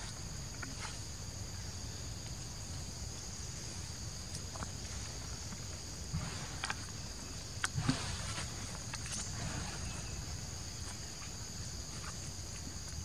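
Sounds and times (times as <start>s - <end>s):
insects droning: 0.0s - 13.0s
low outdoor rumble: 0.0s - 13.0s.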